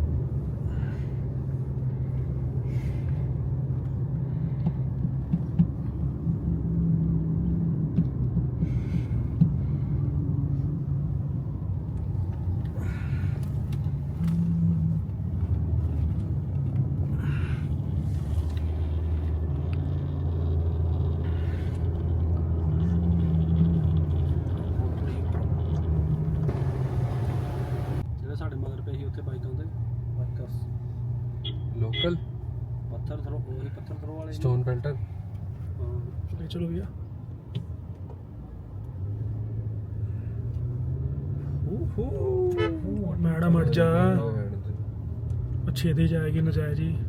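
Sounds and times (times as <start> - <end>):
car engine and road noise: 0.0 - 47.0.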